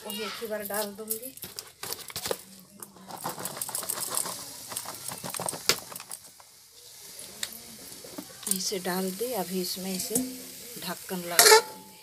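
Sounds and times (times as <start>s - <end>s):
vegetables crackling in hot pan: 0.0s - 12.0s.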